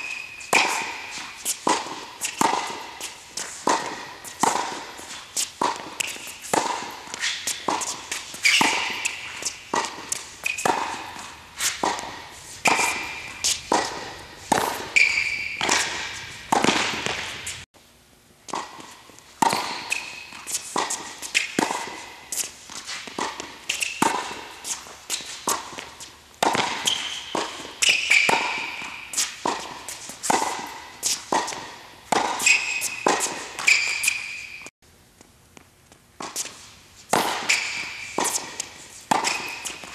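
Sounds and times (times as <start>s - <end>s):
sneaker squeaks on court: 0.0s - 17.6s, 19.4s - 25.4s, 26.5s - 34.7s, 37.2s - 39.9s
tennis ball struck by rackets: 0.0s - 17.6s, 18.5s - 34.7s, 36.2s - 39.9s.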